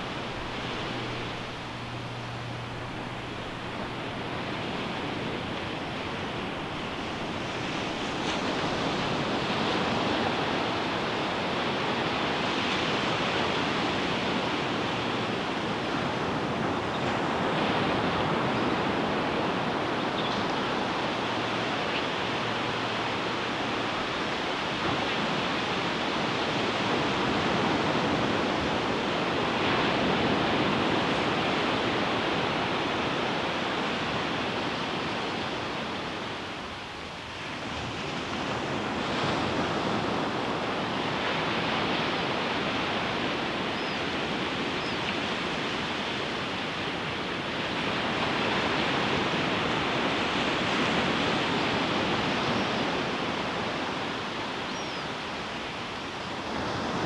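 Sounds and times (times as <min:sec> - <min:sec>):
ocean surf washing up beach: 0:00.0 - 0:57.0.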